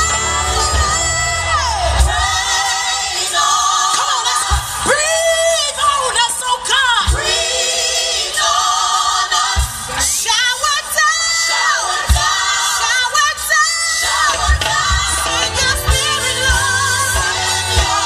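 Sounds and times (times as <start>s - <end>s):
gospel song with vocals: 0.0s - 18.0s.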